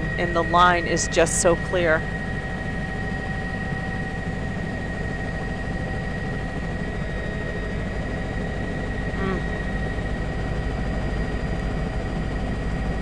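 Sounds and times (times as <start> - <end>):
faint high whine: 0.0 - 13.0
small aircraft engine drone: 0.0 - 13.0.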